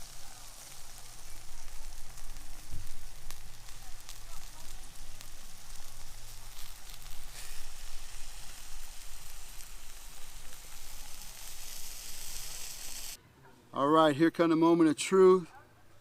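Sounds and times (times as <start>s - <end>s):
faint frying pops: 0.0s - 13.2s
food sizzling in a pan: 0.0s - 13.2s.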